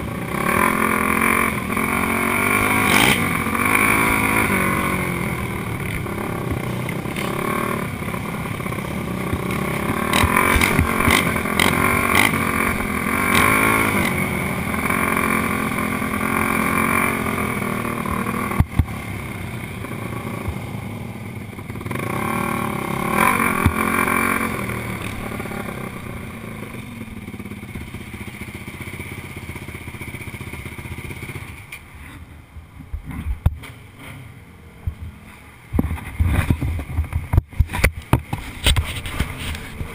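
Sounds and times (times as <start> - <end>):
quad engine running: 0.0 - 32.3, 35.8 - 39.9.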